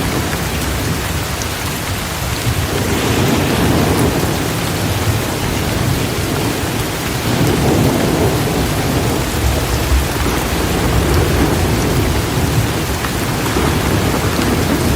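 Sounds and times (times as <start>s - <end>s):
heavy rain falling: 0.0s - 14.9s
low rumble of thunder: 2.4s - 14.9s.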